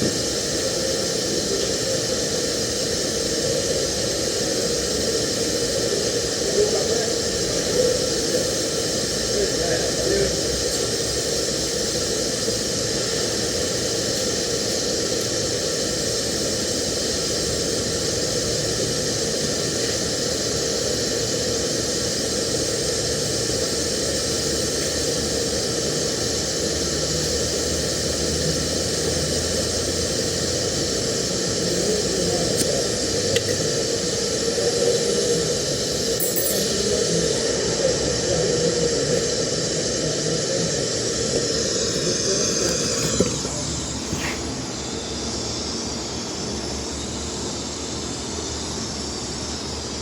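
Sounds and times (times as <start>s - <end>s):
faint hum: 0.0s - 50.0s
welding arc hissing: 0.0s - 50.0s.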